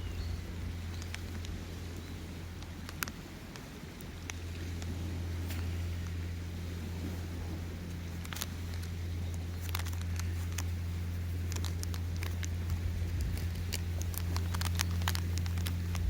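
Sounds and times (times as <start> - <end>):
steady low rumble: 0.0 - 16.0
campfire crackling and popping: 0.6 - 6.2, 7.8 - 16.0.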